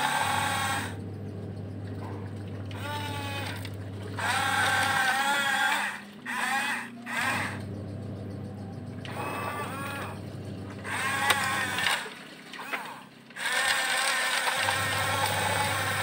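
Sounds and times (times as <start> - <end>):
toy electric motors whining: 0.0 - 1.1, 2.6 - 7.8, 8.4 - 16.0.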